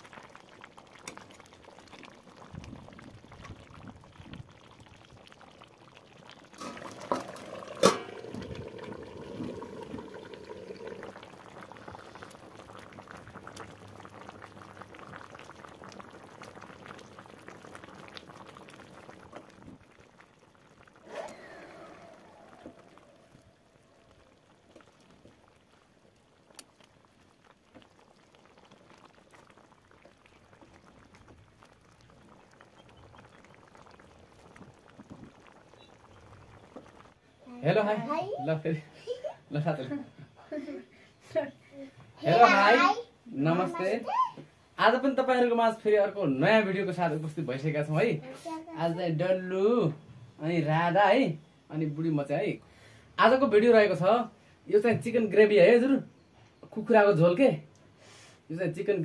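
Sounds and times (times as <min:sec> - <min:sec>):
gravy bubbling in a pan: 0:00.0 - 0:59.0.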